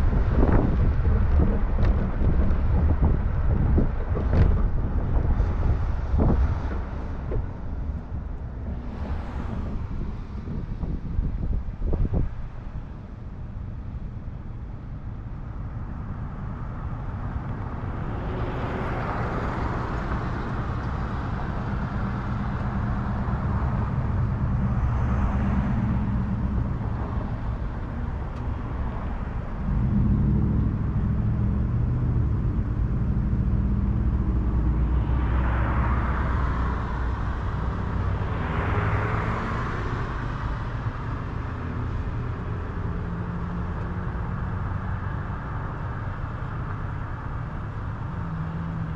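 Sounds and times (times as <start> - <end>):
rushing wind or passing traffic: 0.0 - 48.9
towing vehicle and tyres rumbling: 0.0 - 48.9.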